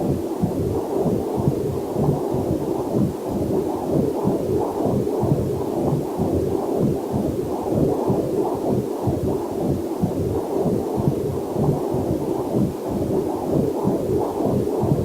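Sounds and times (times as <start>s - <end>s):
fetal heartbeat on doppler monitor: 0.0s - 15.0s.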